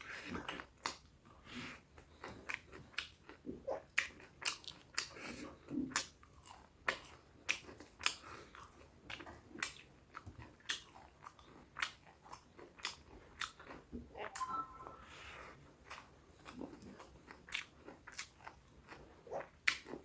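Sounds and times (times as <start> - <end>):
person chewing food: 0.0 - 14.0, 16.5 - 20.0.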